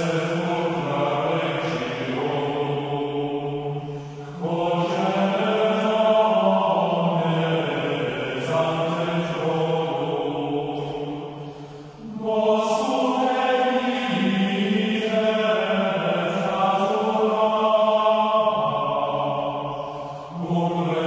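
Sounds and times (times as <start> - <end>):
voices singing plainchant: 0.0 - 21.0.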